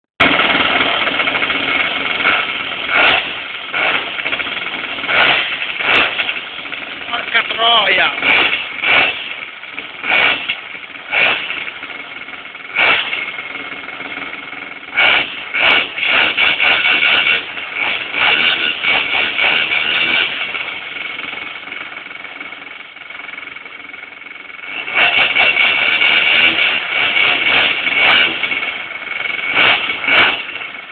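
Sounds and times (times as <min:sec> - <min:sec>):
two-stroke engine revving: 0:00.2 - 0:30.9.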